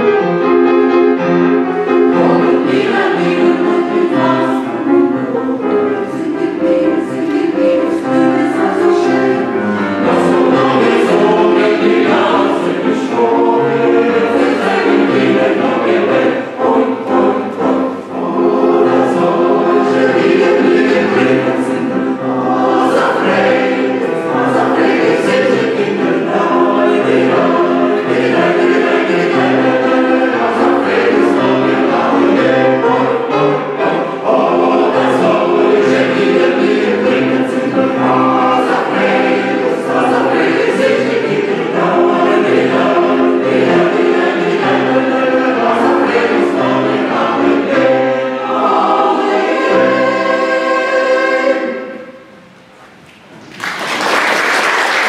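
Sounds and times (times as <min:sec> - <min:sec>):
mixed choir singing: 0:00.0 - 0:52.7.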